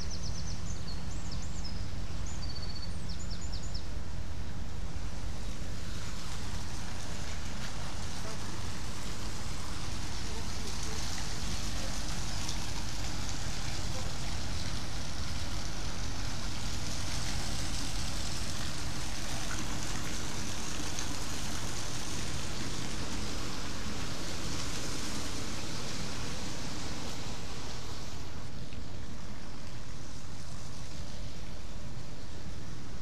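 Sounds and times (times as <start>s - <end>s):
ship engine low rumble: 0.0s - 33.0s.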